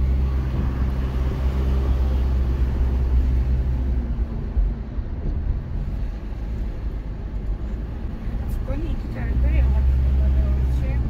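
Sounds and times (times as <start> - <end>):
car engine drone inside cabin: 0.0 - 11.0
tyres rumbling on road: 0.0 - 11.0.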